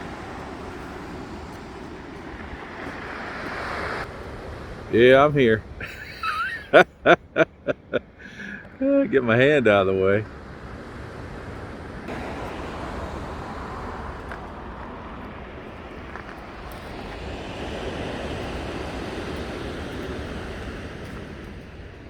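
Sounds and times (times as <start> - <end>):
steady rushing outdoor noise: 0.0 - 22.0.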